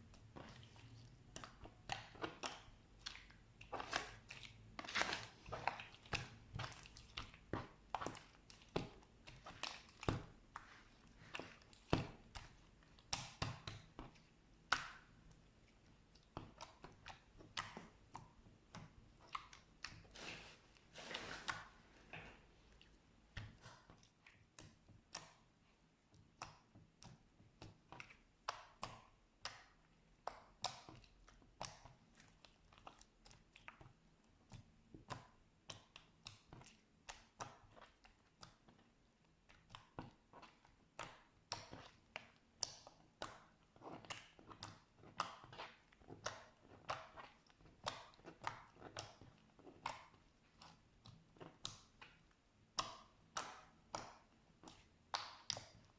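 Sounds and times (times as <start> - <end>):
slime squelch: 0.0 - 55.9.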